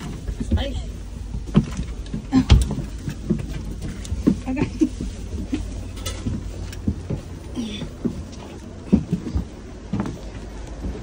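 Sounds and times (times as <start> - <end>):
footsteps on carpeted stairs: 0.0 - 11.0.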